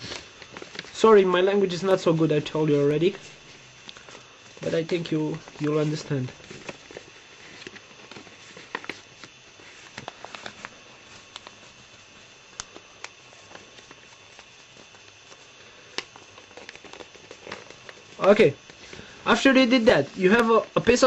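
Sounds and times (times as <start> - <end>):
paper folding and creasing: 0.0 - 21.0.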